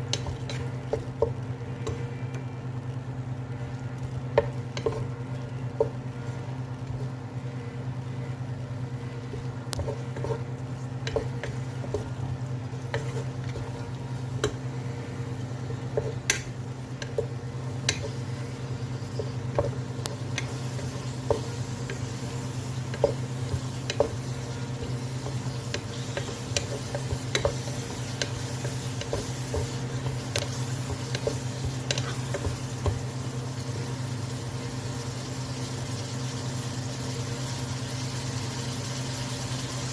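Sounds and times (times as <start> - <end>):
utensil stirring vegetables in pan: 0.0 - 2.2, 3.6 - 35.6
faint sizzle: 0.0 - 39.9.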